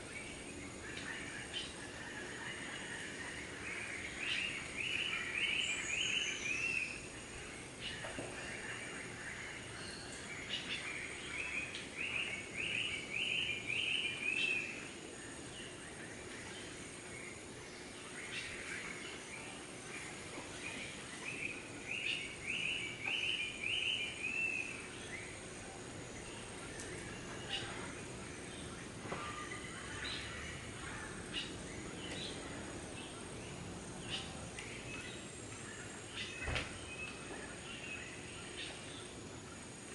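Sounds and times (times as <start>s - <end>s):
faint insects: 0.0s - 39.9s
forest background hiss: 0.0s - 39.9s.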